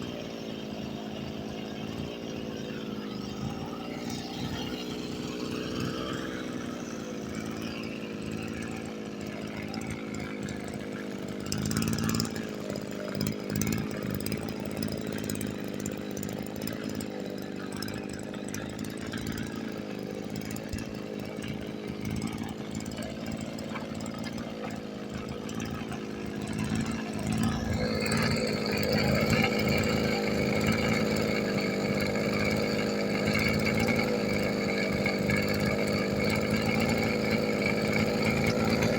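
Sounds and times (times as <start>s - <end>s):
small two-stroke engine running: 0.0s - 38.9s.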